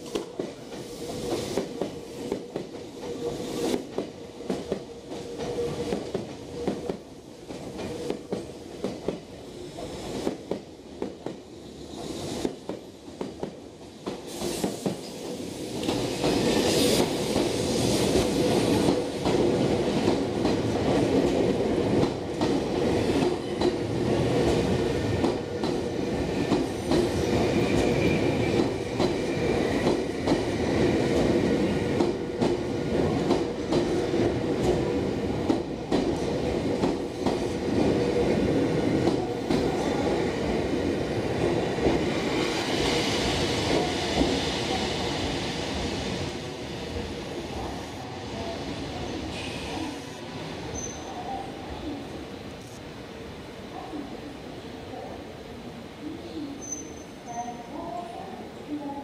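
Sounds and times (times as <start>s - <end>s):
electric train rolling past: 0.0s - 59.0s.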